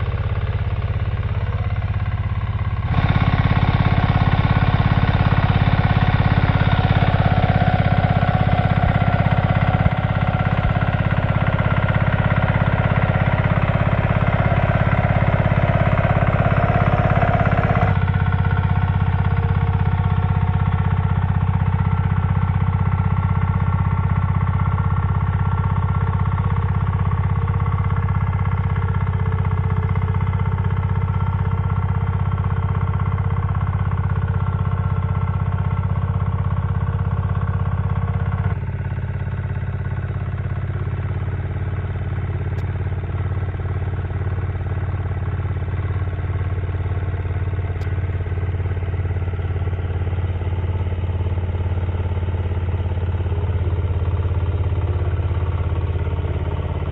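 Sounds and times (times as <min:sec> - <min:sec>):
tiller engine running: 0:00.0 - 0:56.9.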